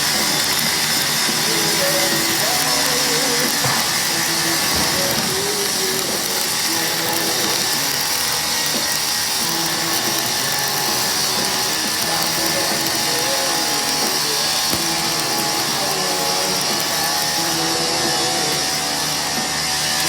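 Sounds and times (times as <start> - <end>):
welding arc crackling and sizzling: 0.0 - 20.0.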